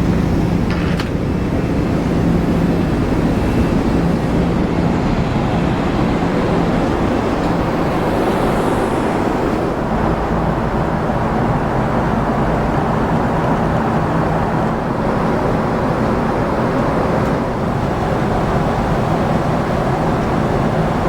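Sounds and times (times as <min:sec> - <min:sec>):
airliner cabin engine rush: 0:00.0 - 0:21.0.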